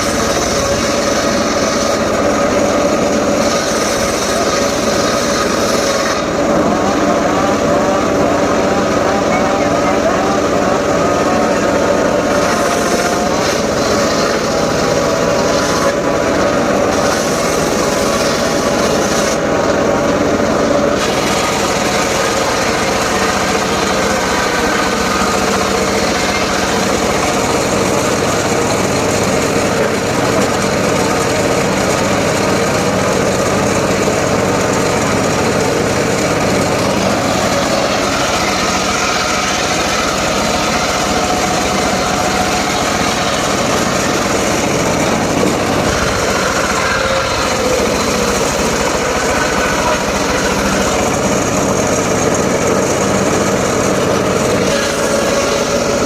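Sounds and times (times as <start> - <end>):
power saw engine running: 0.0 - 56.0.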